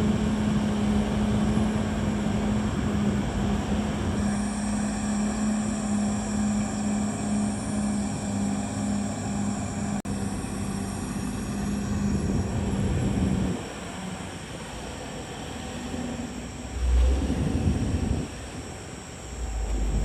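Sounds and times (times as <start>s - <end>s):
bulldozer diesel engine running: 0.0s - 13.9s, 16.1s - 20.0s
low hum: 0.0s - 20.0s.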